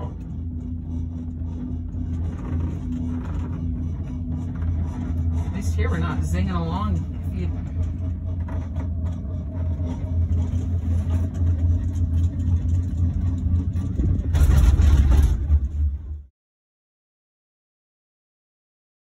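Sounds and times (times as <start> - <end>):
cable car gondola rumbling: 0.0 - 16.3.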